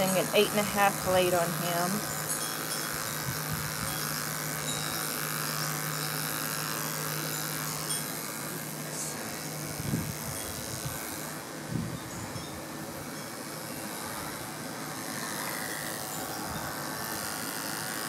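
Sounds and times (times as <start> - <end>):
electric clipper buzzing: 0.0 - 18.0.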